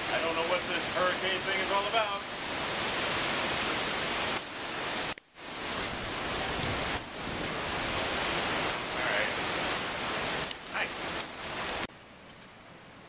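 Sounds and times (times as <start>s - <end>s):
heavy rain pouring on trees: 0.0s - 13.0s.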